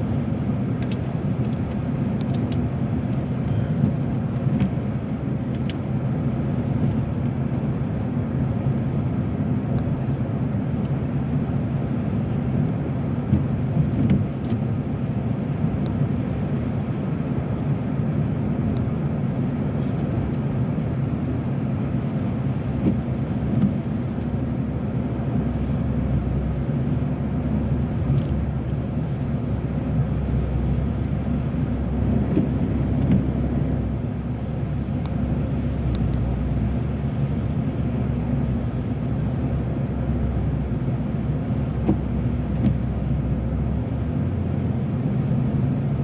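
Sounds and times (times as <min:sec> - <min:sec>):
road and engine rumble in car: 0:00.0 - 0:46.0.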